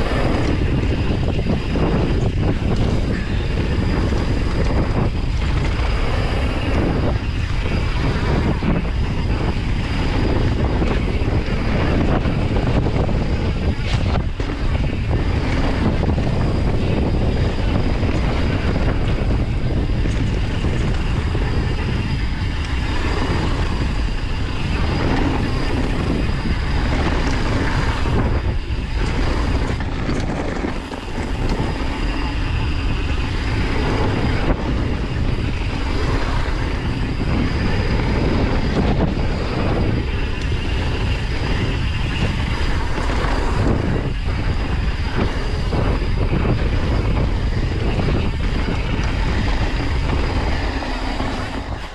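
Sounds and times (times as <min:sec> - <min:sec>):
bike chain and frame rattling: 0:00.0 - 0:51.9
tyre and wind noise: 0:00.0 - 0:51.9.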